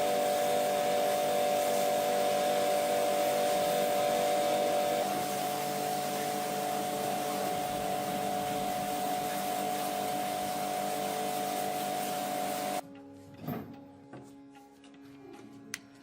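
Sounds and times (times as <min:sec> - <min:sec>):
power tool hissing and whining: 0:00.0 - 0:12.8.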